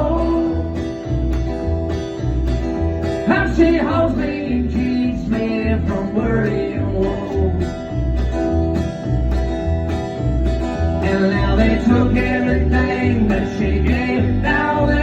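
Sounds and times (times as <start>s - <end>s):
acoustic string band playing: 0.0s - 15.0s.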